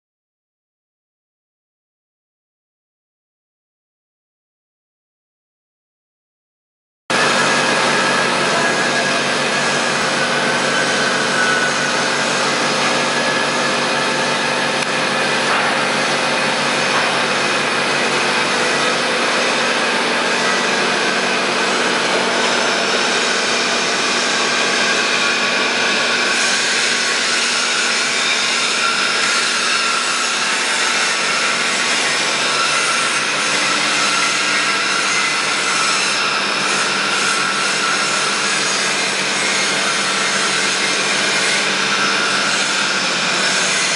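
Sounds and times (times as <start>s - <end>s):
boring mill machine running: 7.1s - 43.9s.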